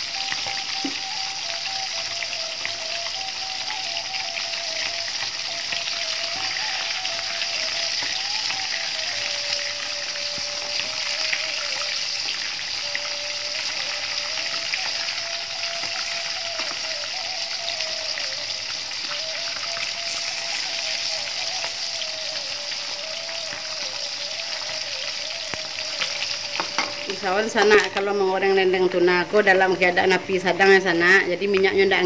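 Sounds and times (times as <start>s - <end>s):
background melody: 0.0s - 32.0s
fish sizzling in hot oil: 0.0s - 32.0s.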